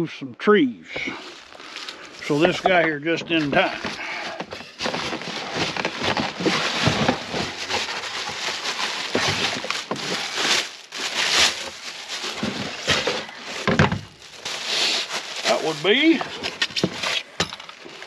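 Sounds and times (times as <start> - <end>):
cardboard and foam scraping: 1.1 - 18.0
plastic wrapping crinkling: 1.2 - 18.0.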